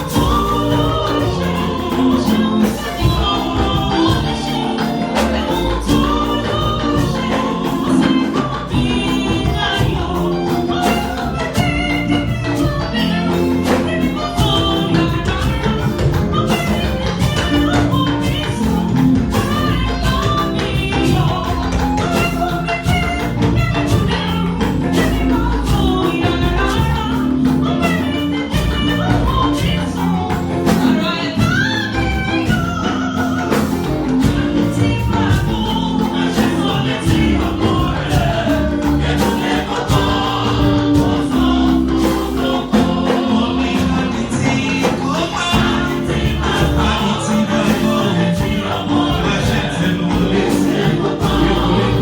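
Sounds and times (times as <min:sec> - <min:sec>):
band accompaniment: 0:00.0 - 0:52.0
choir singing gospel: 0:00.0 - 0:52.0.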